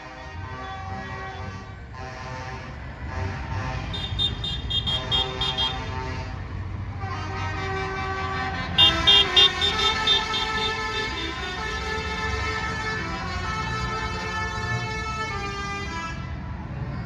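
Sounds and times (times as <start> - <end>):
lorry horns tooting: 0.0 - 16.4
rumble of passing engines: 0.0 - 17.0.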